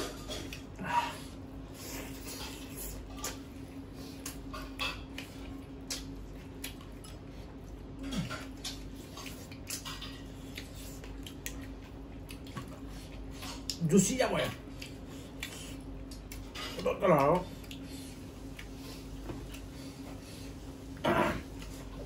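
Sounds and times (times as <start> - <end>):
steady low hum: 0.0 - 22.0
wet chewing smacks: 2.0 - 13.9, 14.6 - 20.4.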